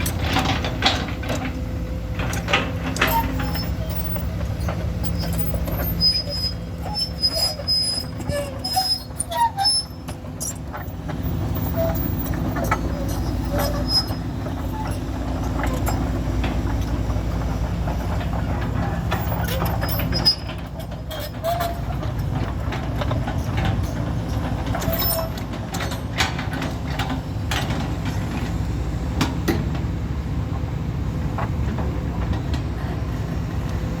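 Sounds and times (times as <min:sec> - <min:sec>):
diesel truck engine rumbling: 0:00.0 - 0:34.0.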